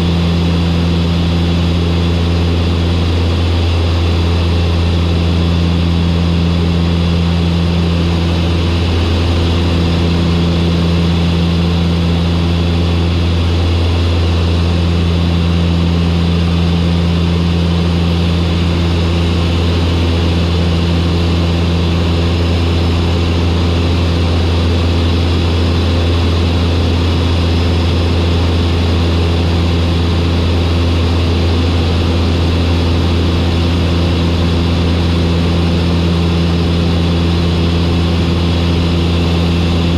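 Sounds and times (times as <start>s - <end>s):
turboprop aircraft engines droning: 0.0s - 39.9s.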